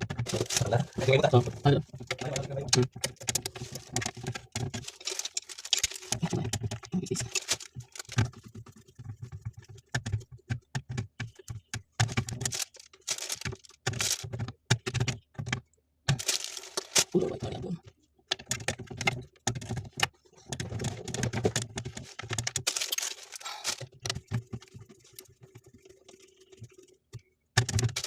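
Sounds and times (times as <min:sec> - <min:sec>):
clicking and tapping of small parts: 0:00.0 - 0:17.2, 0:18.2 - 0:25.6, 0:26.6 - 0:28.0.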